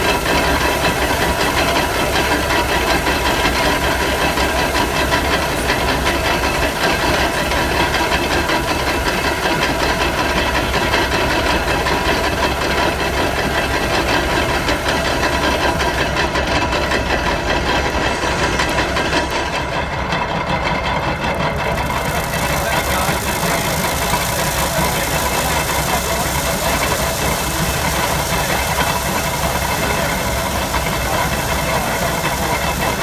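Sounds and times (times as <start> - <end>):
steady whine: 0.0 - 33.0
steam engine hissing: 0.0 - 33.0
threshing machinery running: 0.0 - 33.0.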